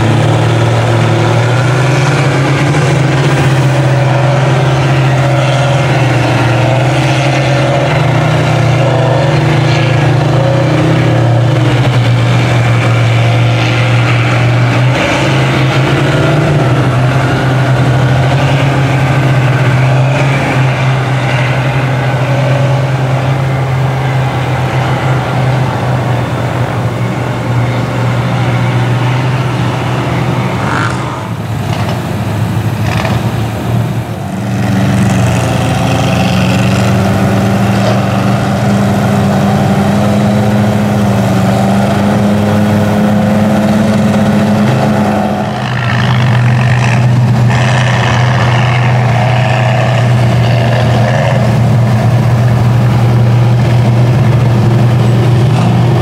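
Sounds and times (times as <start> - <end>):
truck engine droning: 0.0 - 56.0.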